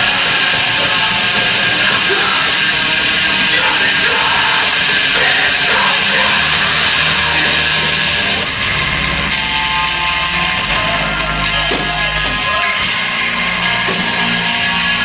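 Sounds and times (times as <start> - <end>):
distorted electric guitars: 0.0 - 15.0
drums: 0.0 - 15.0
shouted vocals: 0.0 - 15.0.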